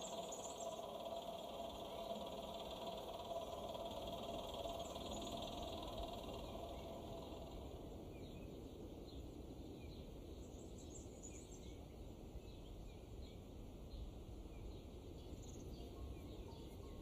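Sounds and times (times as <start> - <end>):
low background noise: 0.0 - 17.0
small birds chirping faintly: 0.0 - 17.0.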